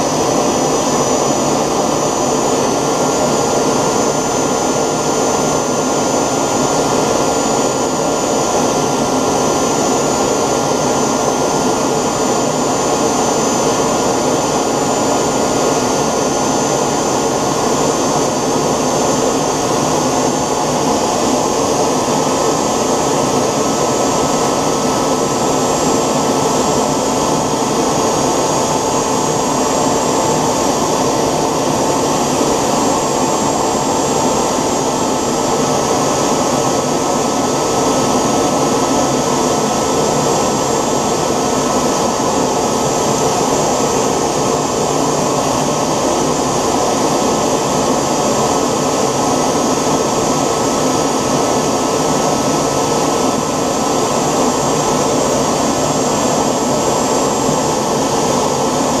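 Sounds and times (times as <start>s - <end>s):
high engine whine: 0.0s - 59.0s
model jet engine rushing: 0.0s - 59.0s.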